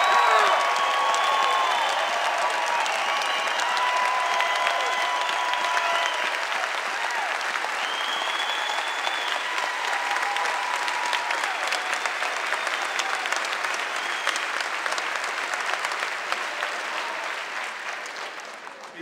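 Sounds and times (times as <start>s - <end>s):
crowd clapping: 0.0s - 19.0s.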